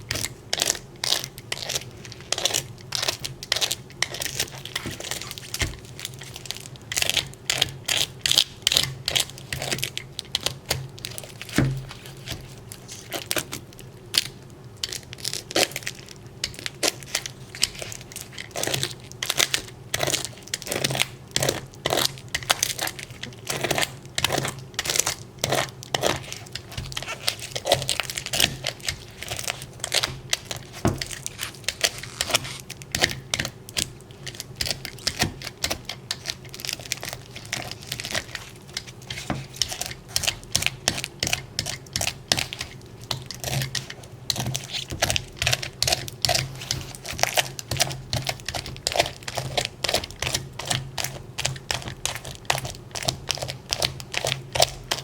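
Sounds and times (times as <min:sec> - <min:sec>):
sharp clicks and crinkling: 0:00.0 - 0:55.0.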